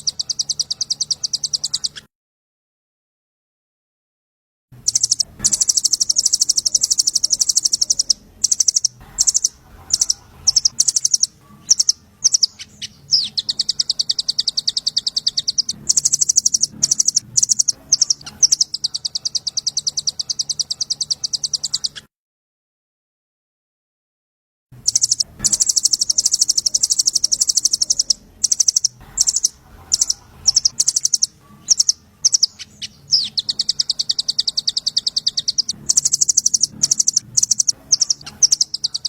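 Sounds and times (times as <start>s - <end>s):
songbird high-pitched trill: 0.0s - 2.0s, 4.8s - 22.0s, 24.8s - 39.0s.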